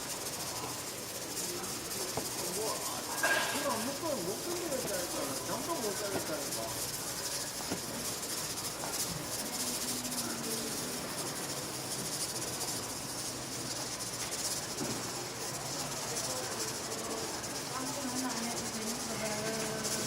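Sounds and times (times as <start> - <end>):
faint market chatter: 0.0 - 20.0
meat sizzling on a griddle: 0.0 - 20.0.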